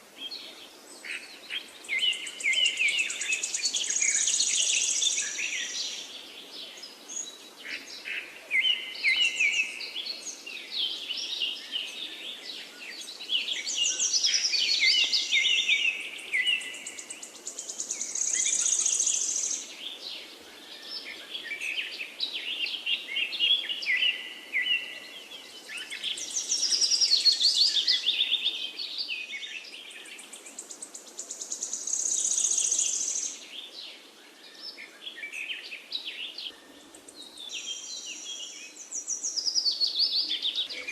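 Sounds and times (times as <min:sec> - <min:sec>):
birds chirping and trilling: 0:00.2 - 0:40.9.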